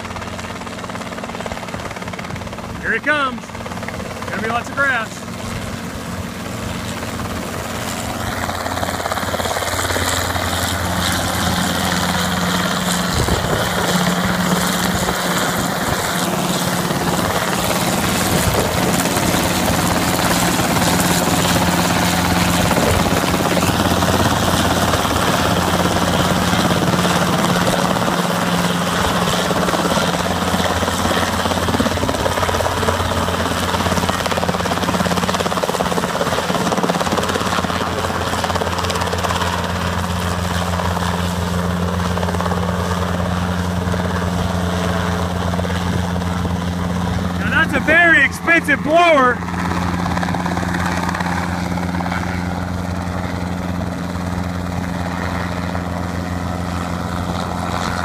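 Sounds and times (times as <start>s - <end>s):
helicopter hovering: 0.0s - 58.0s.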